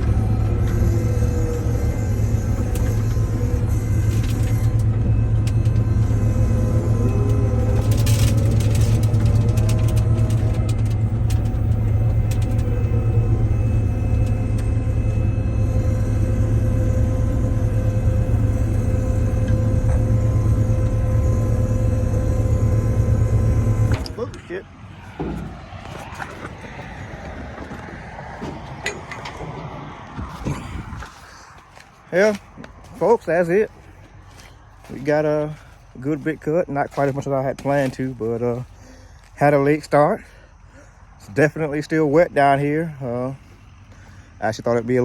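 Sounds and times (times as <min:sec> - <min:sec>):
vehicle engine low rumble: 0:00.0 - 0:45.0.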